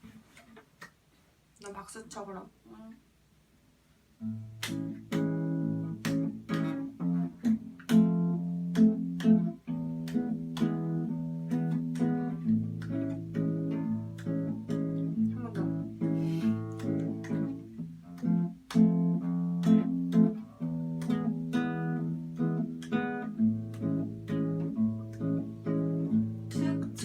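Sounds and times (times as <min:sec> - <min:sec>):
acoustic guitar strumming chords: 0:04.2 - 0:27.0.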